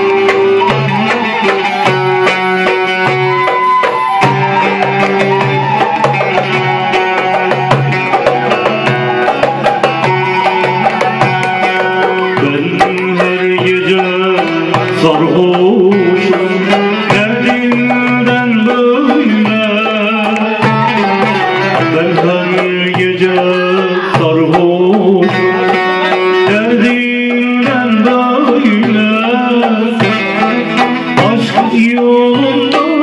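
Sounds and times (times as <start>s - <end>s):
goblet drums rhythm: 0.0s - 33.0s
held melody notes: 0.0s - 33.0s
plucked lute: 0.0s - 33.0s.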